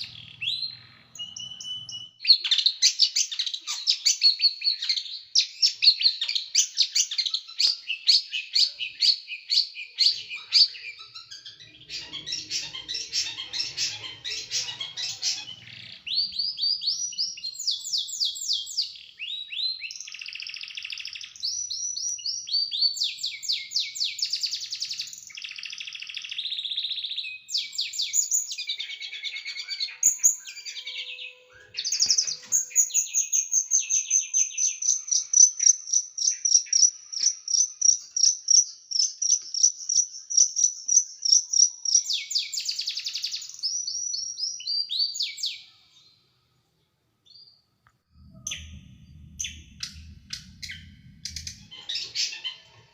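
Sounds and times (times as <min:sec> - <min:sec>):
songbird singing trills: 0:00.0 - 0:46.1, 0:47.3 - 0:52.9.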